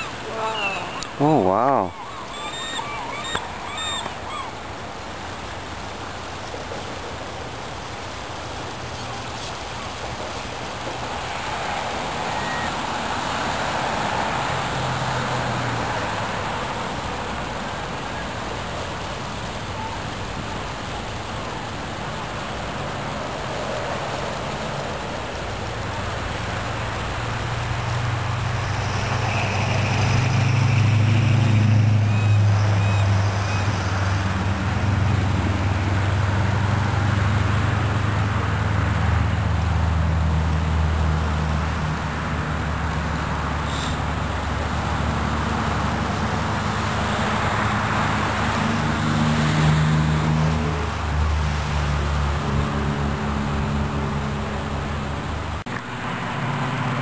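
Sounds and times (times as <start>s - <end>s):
river rushing: 0.0s - 57.0s
wind: 0.0s - 57.0s.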